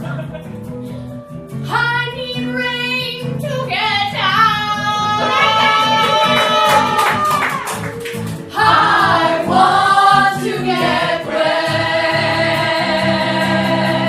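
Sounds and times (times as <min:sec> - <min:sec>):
guitar accompaniment: 0:00.0 - 0:14.0.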